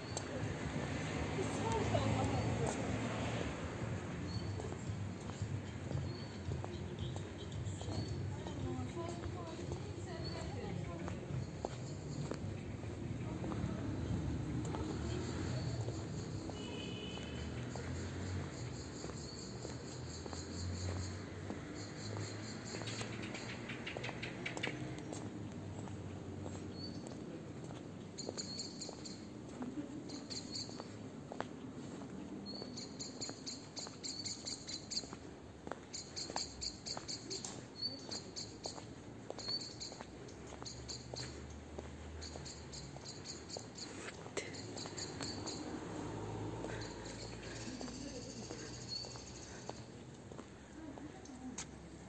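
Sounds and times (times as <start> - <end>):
footsteps on cobblestones: 0.0 - 52.0.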